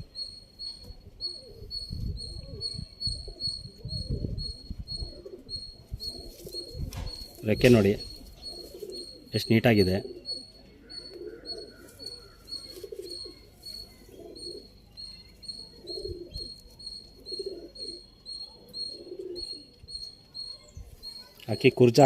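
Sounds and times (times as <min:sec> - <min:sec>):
faint high chirping: 0:00.0 - 0:22.0
pigeons cooing: 0:00.0 - 0:22.0.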